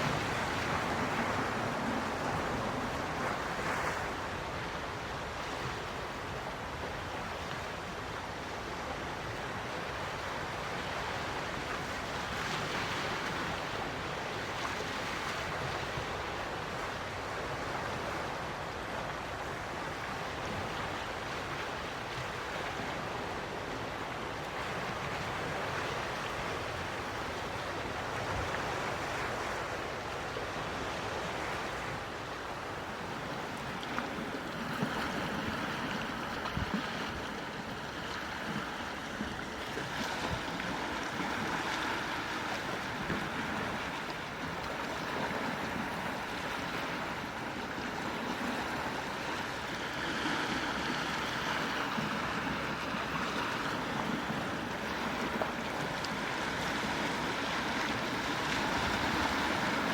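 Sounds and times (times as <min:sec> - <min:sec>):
quiet waves washing in: 0:00.0 - 0:59.9.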